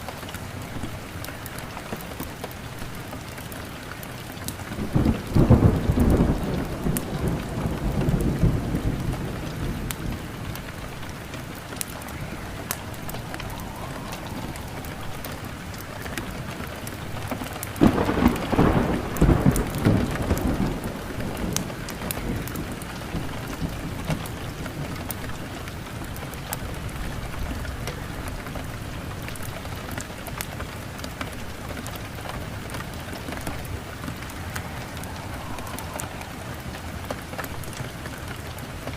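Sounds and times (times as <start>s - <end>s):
steady rain: 0.0s - 38.9s
thunder rumbling: 4.6s - 38.9s.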